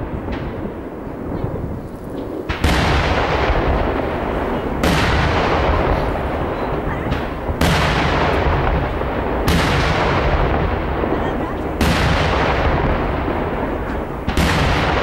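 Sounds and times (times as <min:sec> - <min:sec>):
firework bangs echoing: 0:00.0 - 0:15.0.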